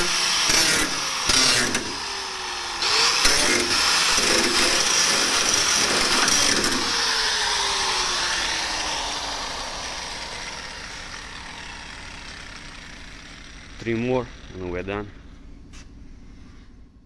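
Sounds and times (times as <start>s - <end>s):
angle grinder cutting sheet metal: 0.0s - 15.0s
grinder spinning down: 0.0s - 15.3s.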